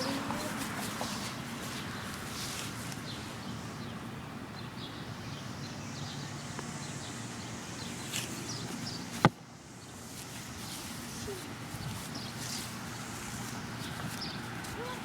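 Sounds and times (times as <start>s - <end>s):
birds chirping: 0.0s - 15.0s
low traffic hum: 0.0s - 15.0s.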